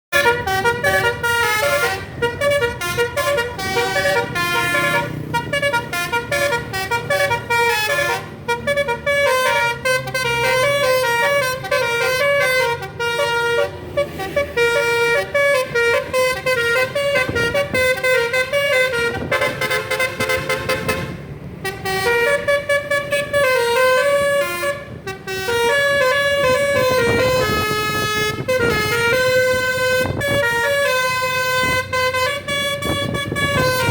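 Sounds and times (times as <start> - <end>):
multi-tone musical bus horn: 0.1 - 33.9.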